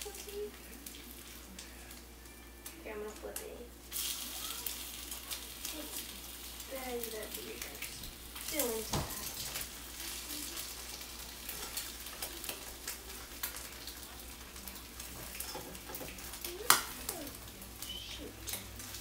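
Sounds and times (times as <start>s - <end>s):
eggs sizzling in a frying pan: 0.0s - 19.0s.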